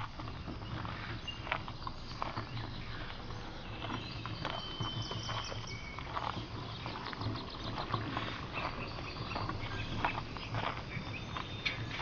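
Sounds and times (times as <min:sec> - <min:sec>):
wheelbarrow rolling over gravel: 0:00.0 - 0:12.0.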